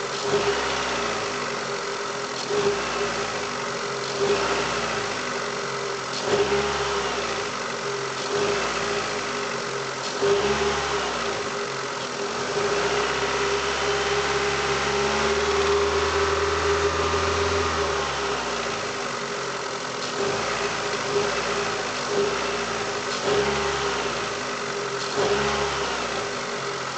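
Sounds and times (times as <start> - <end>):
car engine revving: 0.0 - 26.9
engine knock: 0.0 - 26.9.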